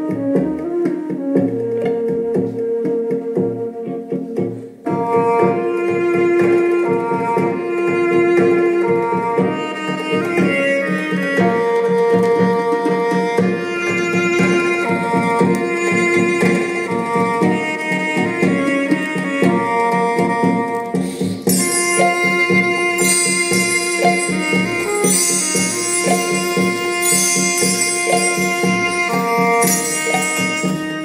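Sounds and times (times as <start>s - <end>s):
music over loudspeakers: 0.0s - 31.0s.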